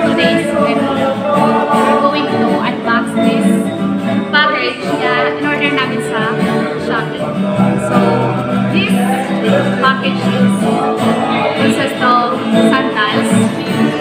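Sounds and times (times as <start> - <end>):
song with sung vocals: 0.0 - 14.0.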